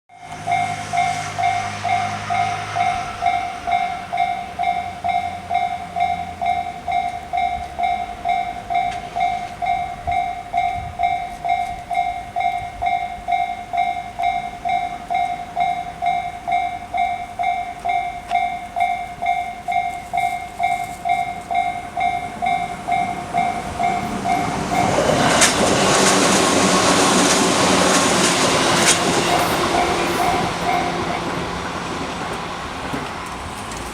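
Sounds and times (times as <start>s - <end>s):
electronic level-crossing bell: 0.1s - 25.4s, 28.6s - 31.4s
train passing with wheel clatter: 0.1s - 33.9s.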